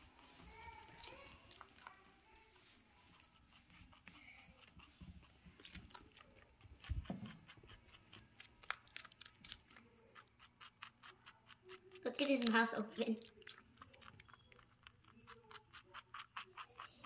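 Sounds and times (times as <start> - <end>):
rabbit chewing vegetable: 0.0 - 17.0.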